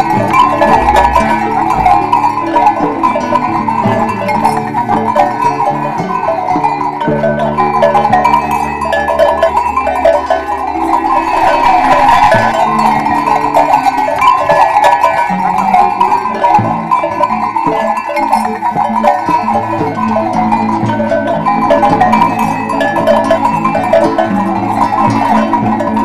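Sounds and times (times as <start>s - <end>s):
background music with low notes: 0.0s - 26.0s
goat bells clanking: 0.0s - 26.0s.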